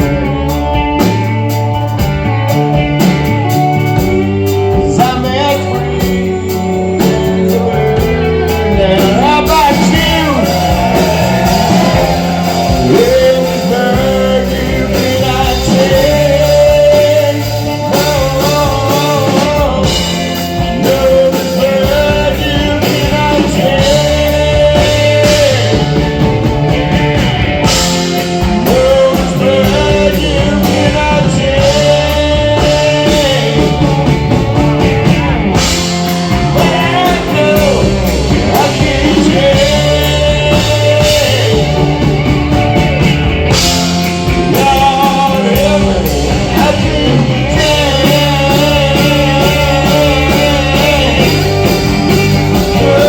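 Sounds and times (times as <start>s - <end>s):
electric guitar bending notes: 0.0s - 53.0s
live rock band playing: 0.0s - 53.0s
person singing: 3.1s - 27.0s, 27.6s - 53.0s.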